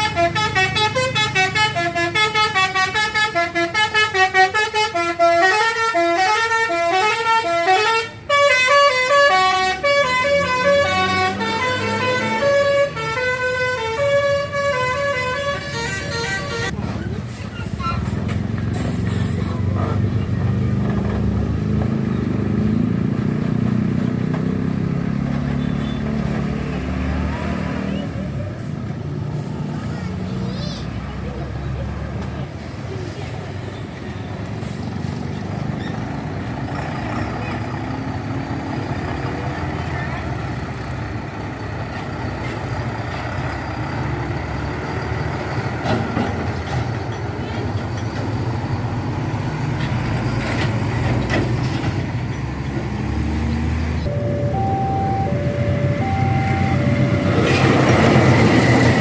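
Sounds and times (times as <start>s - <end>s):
truck engine droning: 0.0s - 59.0s.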